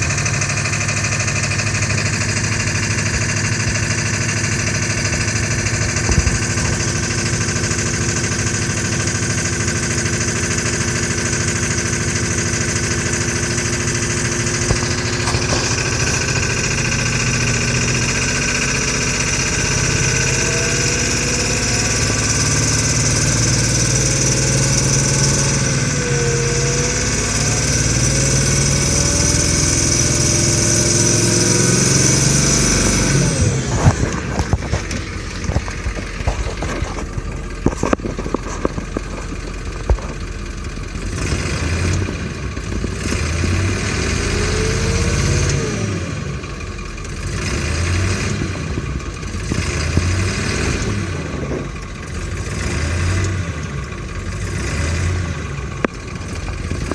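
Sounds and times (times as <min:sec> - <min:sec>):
diesel engine clattering: 0:00.0 - 0:56.9
high engine whine: 0:00.0 - 0:56.9.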